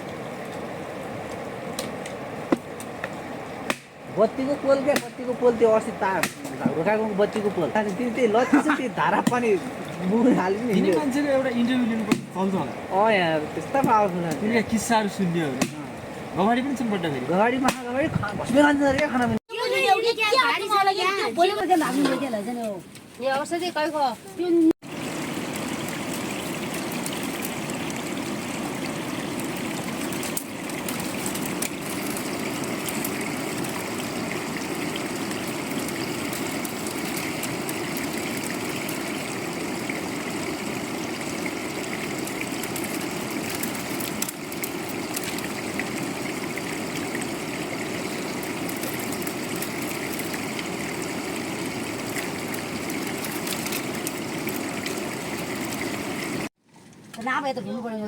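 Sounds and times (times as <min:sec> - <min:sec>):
running water rushing: 0:00.0 - 0:23.8, 0:24.5 - 0:56.5.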